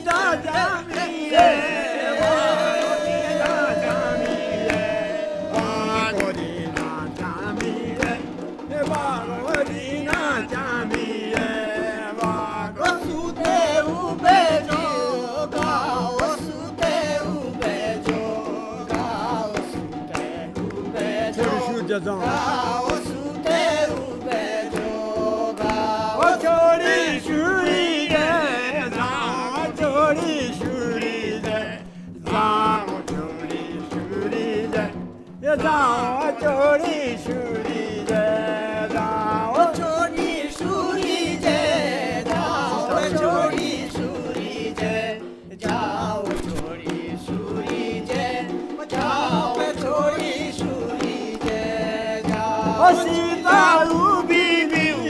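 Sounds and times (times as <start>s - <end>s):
dhol drum beat: 0.0s - 55.0s
men singing folk song: 0.0s - 55.0s.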